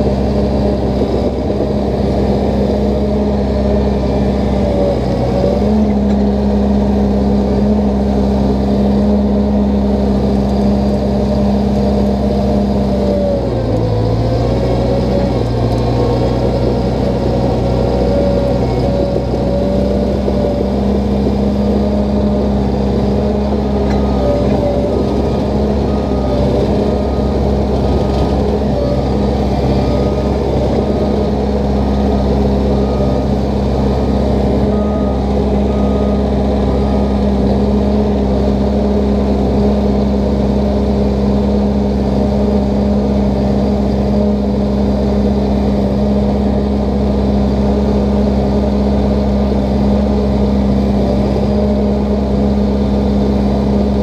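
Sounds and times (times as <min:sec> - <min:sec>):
dozer diesel engine running: 0:00.0 - 0:54.0.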